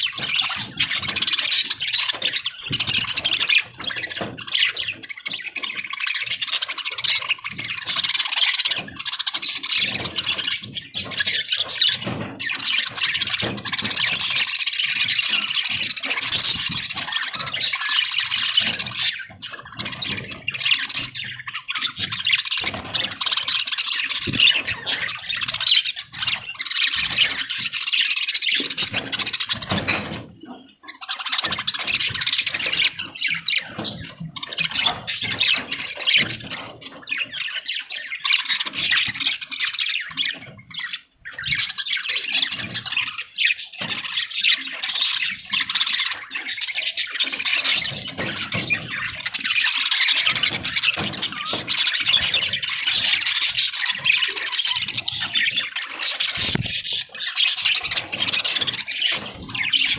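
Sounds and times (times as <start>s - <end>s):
budgies chattering and warbling: 0.0s - 59.9s.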